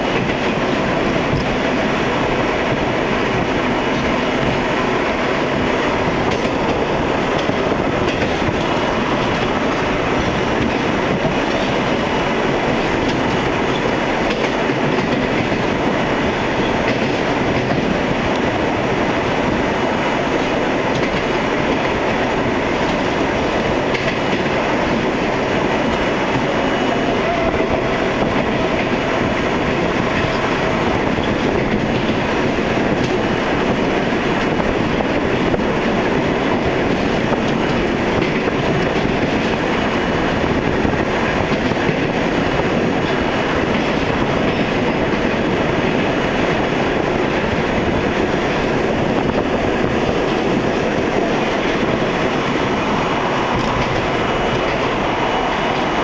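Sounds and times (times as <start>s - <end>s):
subway train rumbling in tunnel: 0.0s - 56.0s
wheels clattering on rails: 0.0s - 56.0s.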